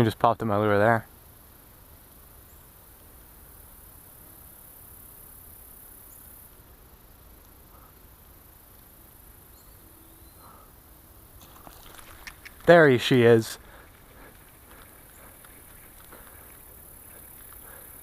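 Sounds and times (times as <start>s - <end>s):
faint chirps: 3.6s - 18.0s.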